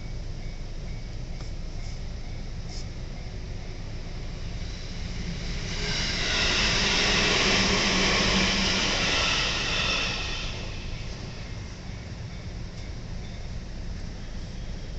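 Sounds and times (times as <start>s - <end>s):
electric train passing: 0.0s - 14.9s.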